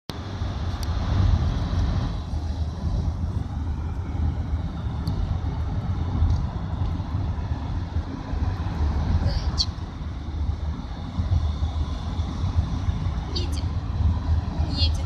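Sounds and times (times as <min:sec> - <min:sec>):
vehicle rumble from inside: 0:00.1 - 0:15.0.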